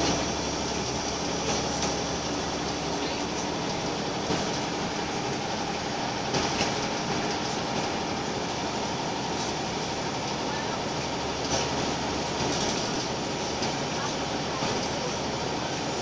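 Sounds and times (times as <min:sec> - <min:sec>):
diesel bus engine running: 0:00.0 - 0:16.0
road noise: 0:00.0 - 0:16.0.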